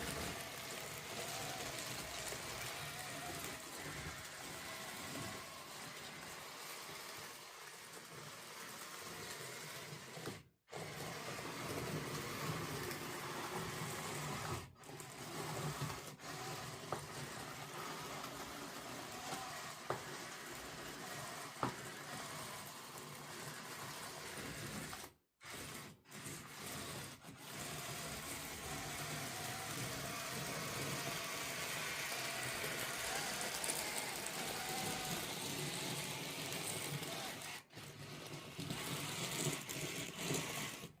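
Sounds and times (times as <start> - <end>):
small electric motors whirring: 0.0 - 41.0.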